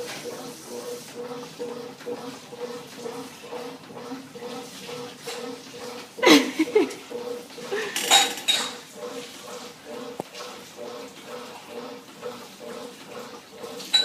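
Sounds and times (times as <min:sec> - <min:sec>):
washing machine pulsing hum: 0:00.0 - 0:14.0.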